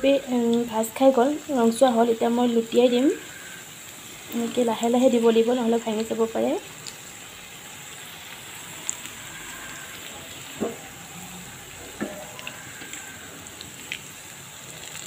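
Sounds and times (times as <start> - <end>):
fritters sizzling in oil: 0.0 - 15.0.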